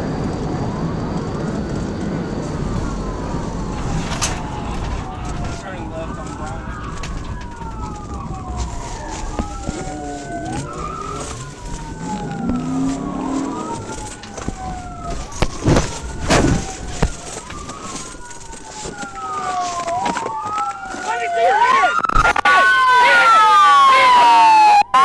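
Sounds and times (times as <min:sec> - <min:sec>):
police siren wailing: 0:00.0 - 0:25.0
road and engine noise: 0:00.0 - 0:25.0.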